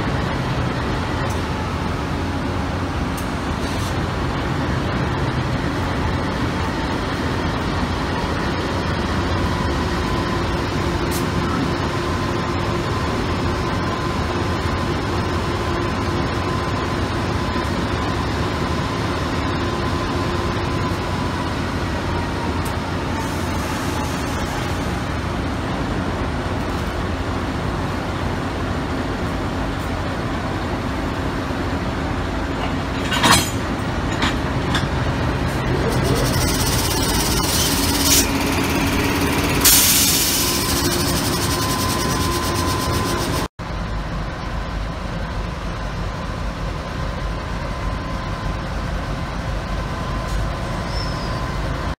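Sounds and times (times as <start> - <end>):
engine whine: 0.0 - 51.9
locomotive engine rumble: 0.0 - 51.9.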